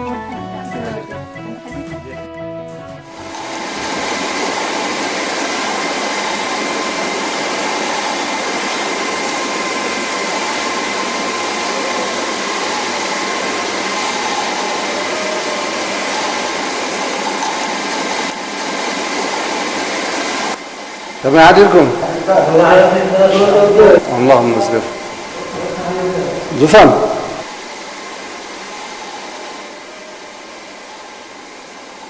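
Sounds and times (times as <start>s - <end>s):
factory machinery whirring: 2.9s - 32.0s.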